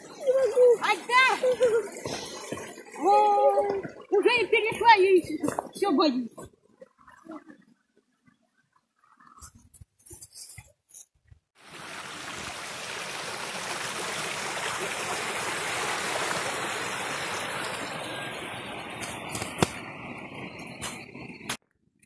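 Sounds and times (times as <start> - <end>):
stream flowing: 0.0 - 9.4, 11.6 - 21.6.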